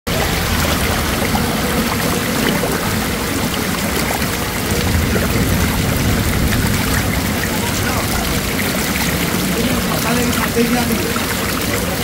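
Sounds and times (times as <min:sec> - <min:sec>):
floodwater rushing over ledge: 0:00.1 - 0:12.0.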